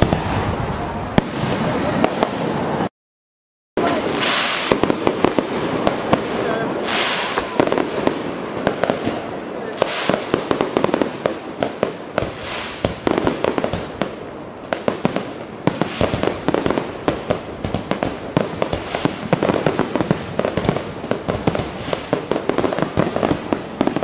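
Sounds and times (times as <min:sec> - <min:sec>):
fireworks bangs and crackles: 0:00.0 - 0:02.9, 0:03.8 - 0:24.0.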